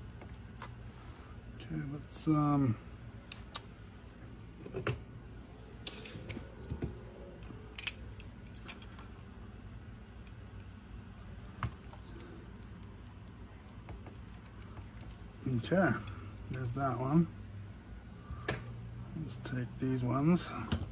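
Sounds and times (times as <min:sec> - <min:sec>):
faint low hum: 0:00.0 - 0:20.9.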